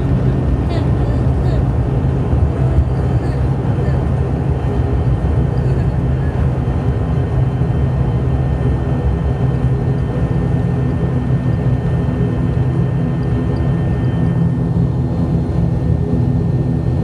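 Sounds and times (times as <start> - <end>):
aircraft engines running: 0.0 - 17.0.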